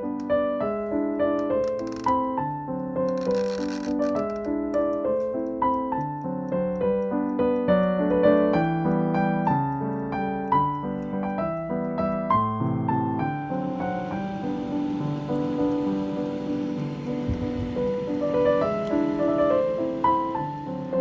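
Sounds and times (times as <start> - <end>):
keyboard melody: 0.0 - 21.0.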